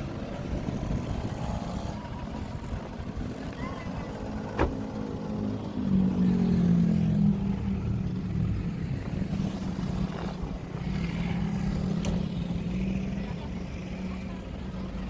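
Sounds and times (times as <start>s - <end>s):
road rumble: 0.0s - 15.0s
van engine humming: 0.0s - 15.0s.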